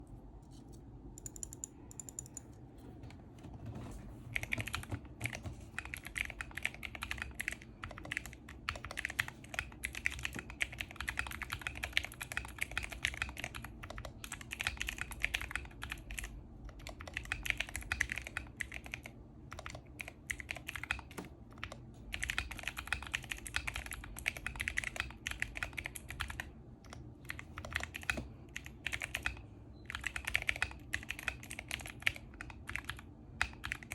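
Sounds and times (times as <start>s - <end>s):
mechanical keyboard typing: 1.2s - 2.6s, 4.3s - 33.9s.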